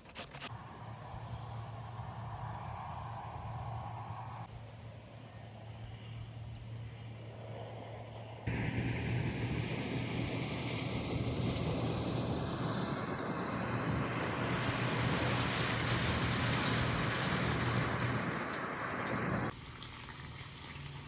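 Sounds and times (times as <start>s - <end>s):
engine running steadily: 0.4s - 19.6s.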